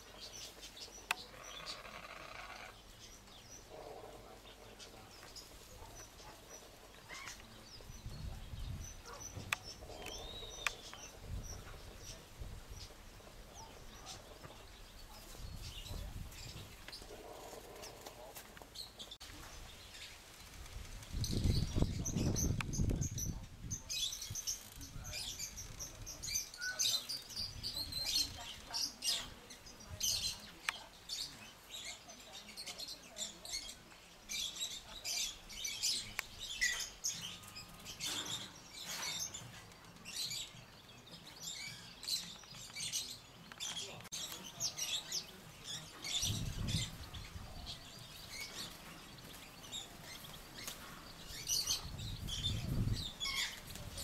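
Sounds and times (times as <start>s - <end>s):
birds chirping and tweeting: 0.0s - 54.0s.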